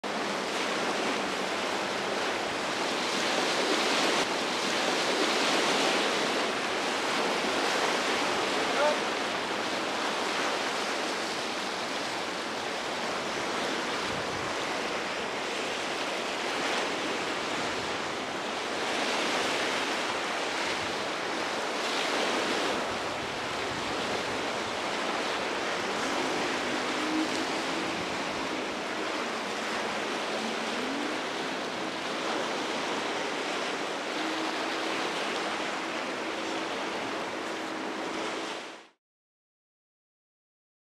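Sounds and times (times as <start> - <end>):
waves breaking: 0.0 - 39.0.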